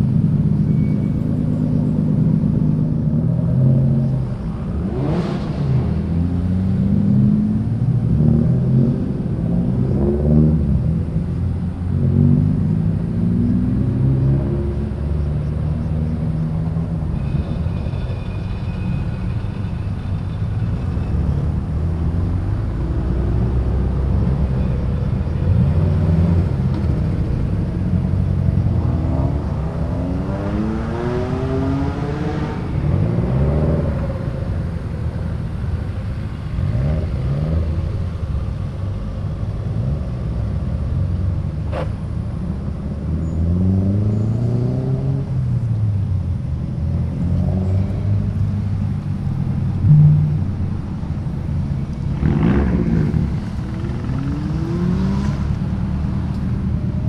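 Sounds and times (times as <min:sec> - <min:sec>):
car engines revving: 0:00.0 - 0:57.0
low exhaust drone: 0:00.0 - 0:57.0.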